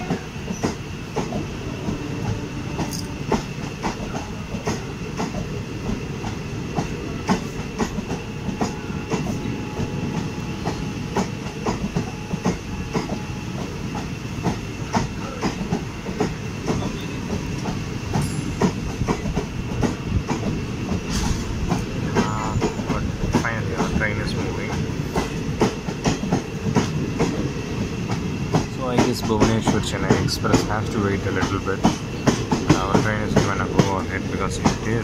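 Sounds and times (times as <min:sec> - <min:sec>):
train wheel rumble: 0:00.0 - 0:35.0.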